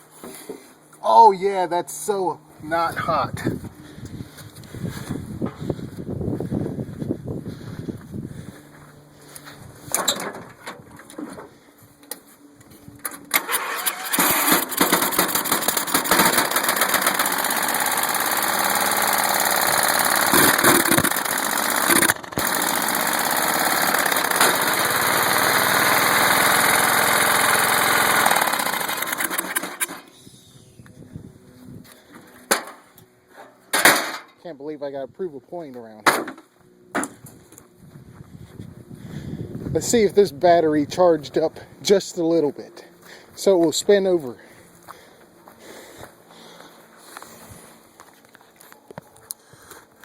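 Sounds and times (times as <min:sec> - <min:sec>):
riding mower engine running: 0:00.0 - 0:34.9, 0:36.6 - 0:50.0.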